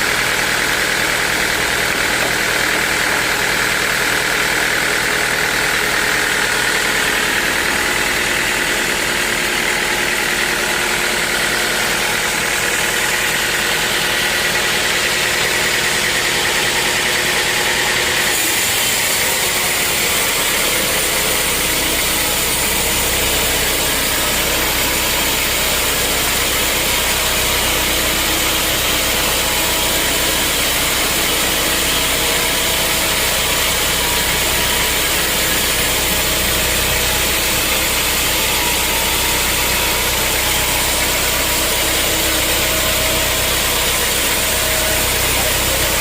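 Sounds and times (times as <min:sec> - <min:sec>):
sawmill machinery drone: 0:00.0 - 0:46.0.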